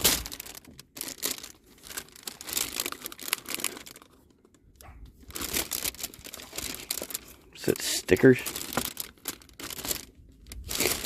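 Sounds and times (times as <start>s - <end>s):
paper and plastic packaging crinkling: 0.0s - 11.0s.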